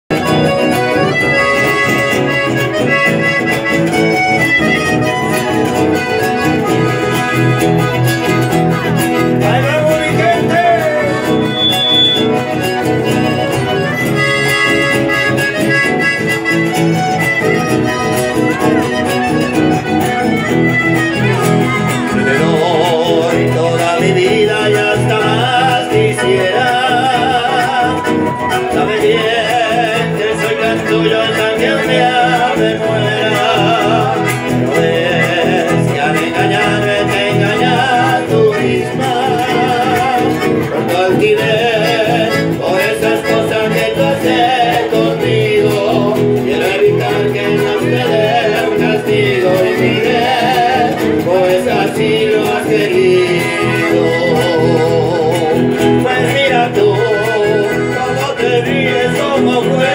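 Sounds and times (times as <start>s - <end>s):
accordion melody: 0.1s - 59.9s
strummed acoustic guitars: 0.1s - 59.9s.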